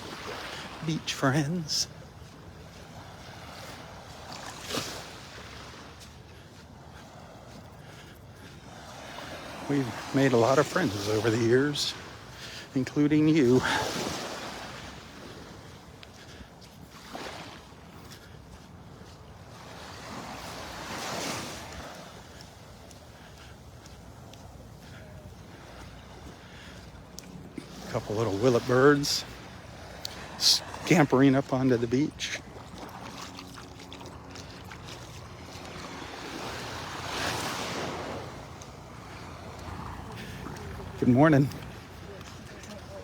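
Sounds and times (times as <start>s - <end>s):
waves washing on sandy beach: 0.0s - 43.0s.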